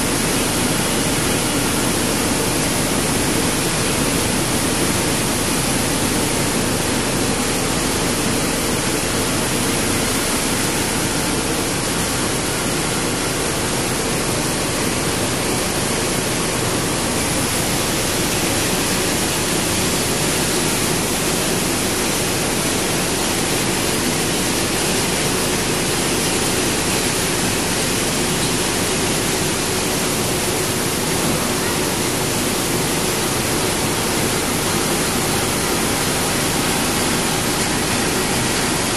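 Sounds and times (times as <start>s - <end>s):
recycling machinery running: 0.0s - 38.9s.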